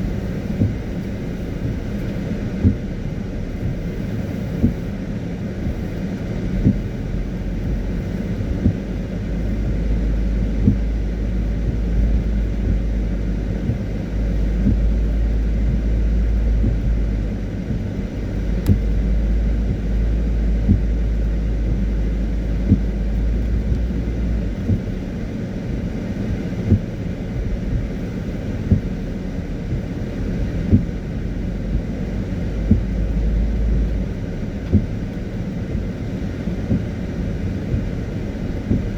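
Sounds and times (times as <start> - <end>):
car on wet road rumble: 0.0 - 38.9.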